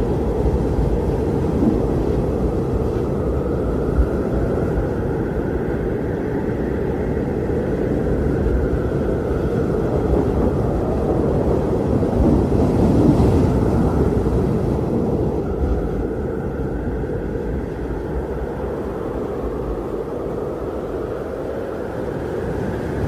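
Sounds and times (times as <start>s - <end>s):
blizzard wind roaring: 0.0s - 23.0s.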